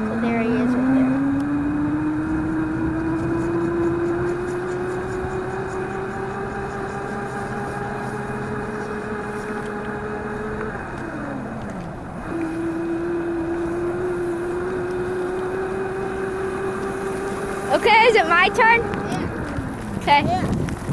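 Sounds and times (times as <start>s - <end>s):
electric motor whining: 0.0s - 20.9s.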